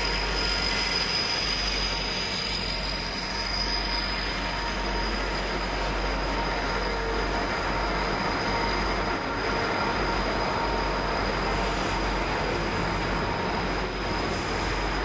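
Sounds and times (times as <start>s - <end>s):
freight train wagons rumbling past: 0.0s - 15.0s.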